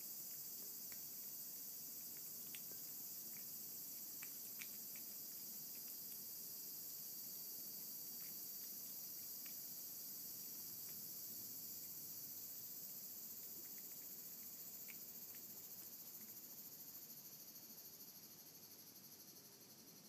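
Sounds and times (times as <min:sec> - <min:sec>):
cat chewing and licking: 0:00.0 - 0:17.3
steady high hiss: 0:00.0 - 0:20.0.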